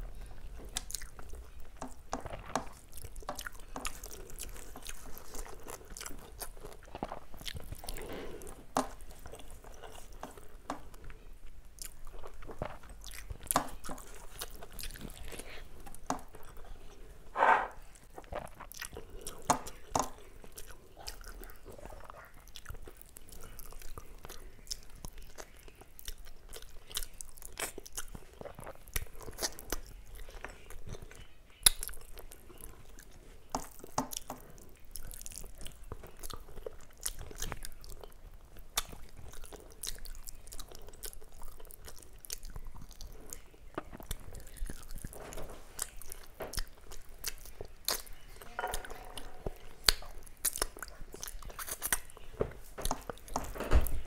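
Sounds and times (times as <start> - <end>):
close chewing with wet clicks: 0.0 - 17.0, 17.8 - 48.4, 49.5 - 54.0.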